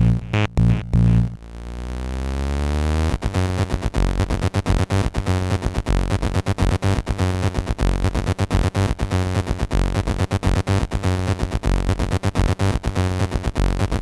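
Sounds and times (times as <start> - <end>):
electronic music with synthesizers: 0.0 - 14.0.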